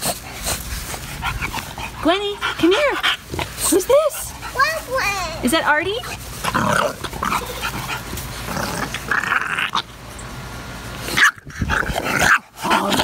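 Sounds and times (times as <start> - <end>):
dogs vocalizing while playing: 0.0 - 5.0, 5.9 - 10.3, 10.9 - 13.0.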